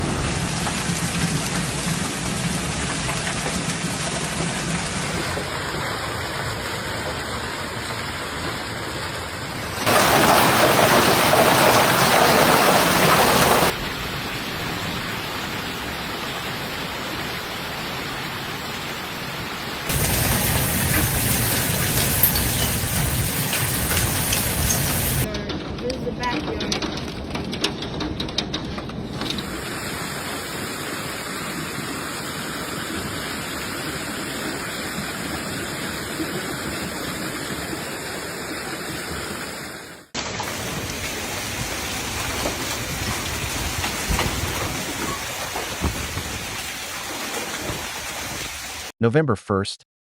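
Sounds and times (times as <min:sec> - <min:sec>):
hail and heavy rain falling: 0:00.0 - 0:17.8, 0:19.9 - 0:38.1, 0:40.2 - 0:48.9.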